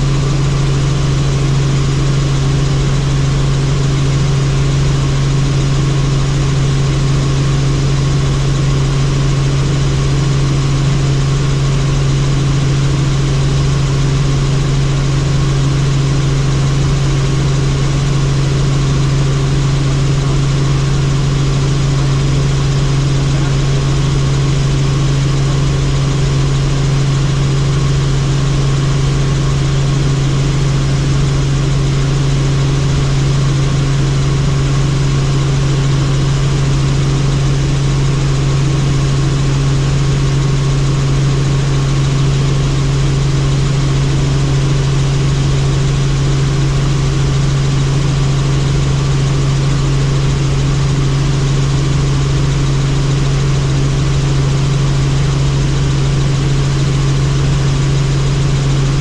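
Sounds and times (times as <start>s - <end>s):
helicopter drone: 0.0s - 59.0s.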